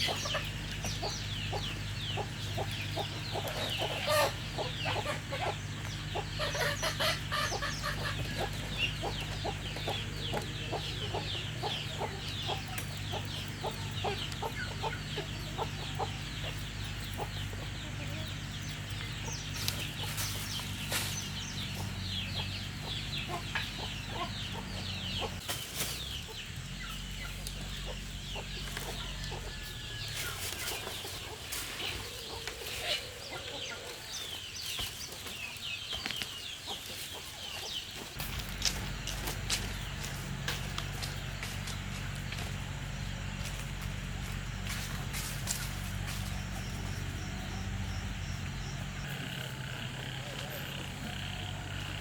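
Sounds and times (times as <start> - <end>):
chickens clucking: 0.0 - 52.0
high chick peeps: 0.0 - 52.0.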